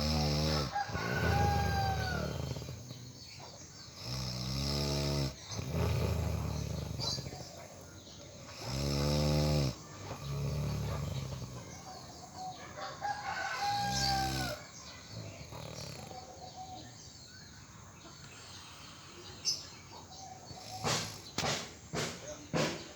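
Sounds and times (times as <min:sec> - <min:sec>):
loud rattling snoring: 0:00.0 - 0:17.6, 0:18.3 - 0:22.9
quiet breathing: 0:00.0 - 0:21.4.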